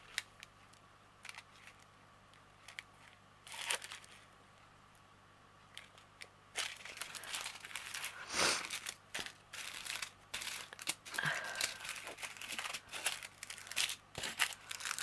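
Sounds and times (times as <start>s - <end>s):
plastic packets rustling: 0.0s - 1.9s, 2.5s - 4.3s, 5.7s - 15.0s.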